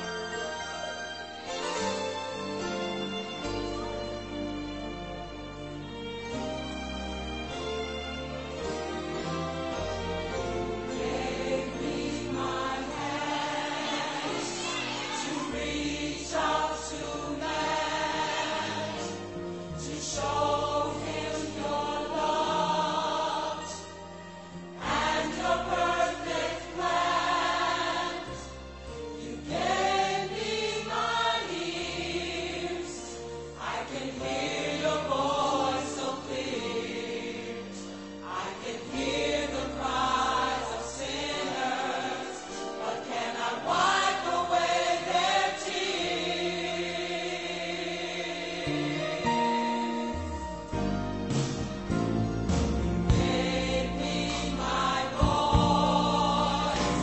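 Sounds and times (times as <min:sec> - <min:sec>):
instrumental accompaniment with bass: 0:00.0 - 0:47.8, 0:48.4 - 0:57.0
gospel choir singing: 0:07.8 - 0:50.9, 0:51.8 - 0:57.0.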